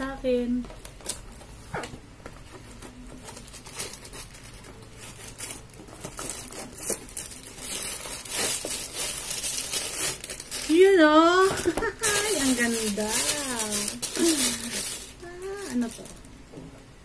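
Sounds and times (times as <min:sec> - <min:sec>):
plastic packaging crinkling: 0:02.7 - 0:16.4.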